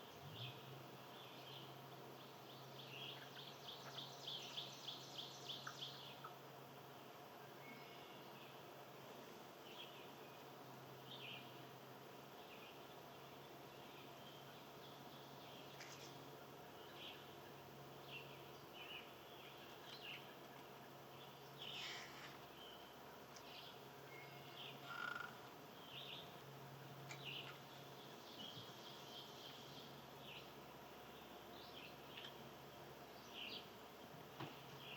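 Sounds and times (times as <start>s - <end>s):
faint birds chirping and calling: 0.0s - 34.9s
steady faint low hum: 0.0s - 34.9s.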